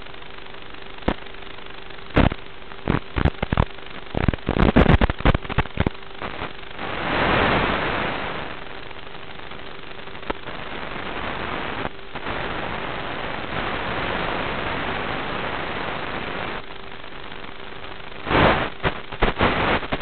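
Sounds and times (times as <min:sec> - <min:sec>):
static hiss: 0:00.0 - 0:20.0
loud irregular crackles: 0:02.1 - 0:07.6, 0:08.3 - 0:20.0.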